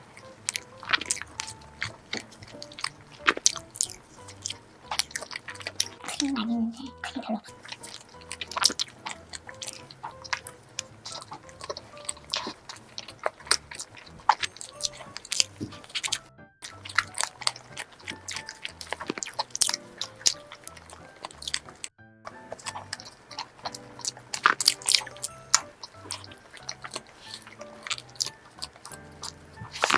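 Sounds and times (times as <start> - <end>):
biting and chewing donut: 0.0 - 29.9
soft background music: 0.0 - 29.9
wet mouth clicks: 0.2 - 21.9, 22.5 - 29.9.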